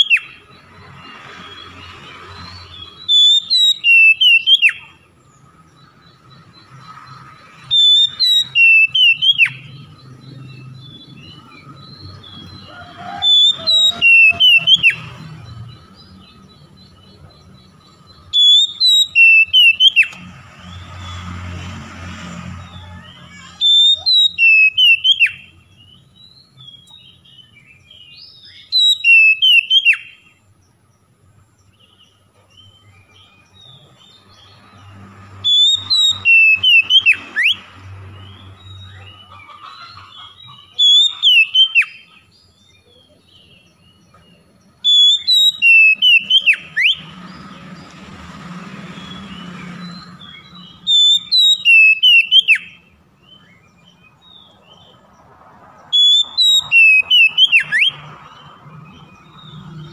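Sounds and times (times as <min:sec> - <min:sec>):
bird singing whistled notes: 0:00.0 - 0:21.1, 0:22.6 - 0:30.7, 0:31.6 - 0:47.6, 0:48.9 - 0:55.0, 0:55.8 - 0:59.9.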